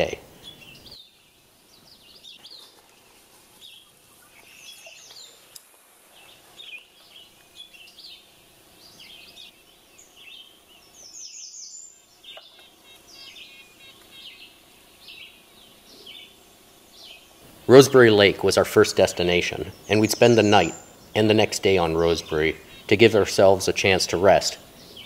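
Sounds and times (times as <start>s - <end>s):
small birds chirping and singing: 0.0s - 25.0s.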